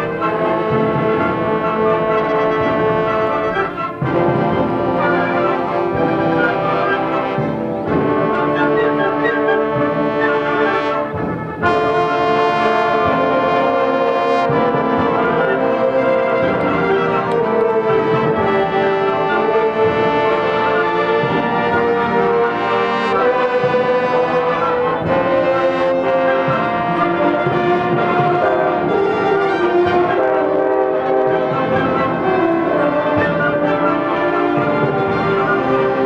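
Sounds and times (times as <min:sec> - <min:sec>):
concert band playing chords: 0:00.0 - 0:36.0.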